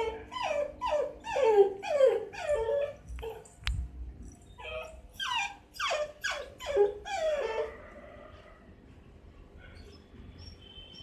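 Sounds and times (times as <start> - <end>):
puppy whining: 0.0 - 3.6, 4.5 - 8.7, 9.6 - 11.0.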